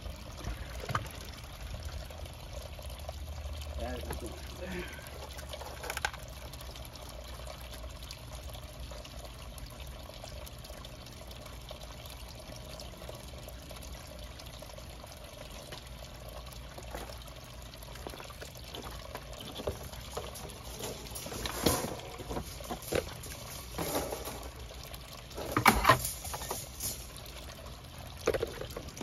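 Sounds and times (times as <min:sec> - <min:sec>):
water trickling into pond: 0:00.0 - 0:29.0.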